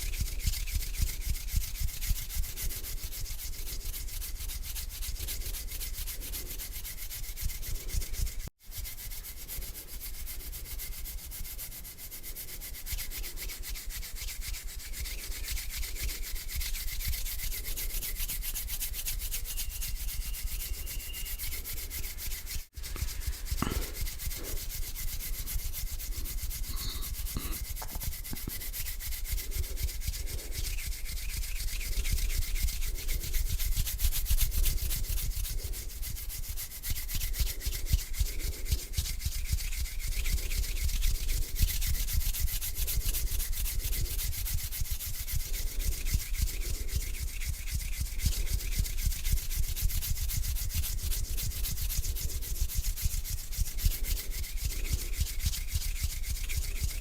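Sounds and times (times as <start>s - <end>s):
hands rubbing together: 0.0s - 57.0s.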